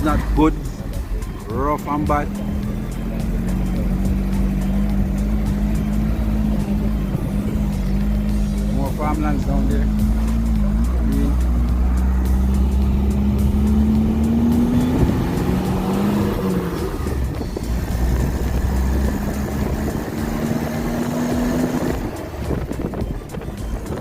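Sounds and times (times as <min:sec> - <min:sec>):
road noise: 0:00.0 - 0:24.0
vehicle engine running: 0:00.0 - 0:24.0.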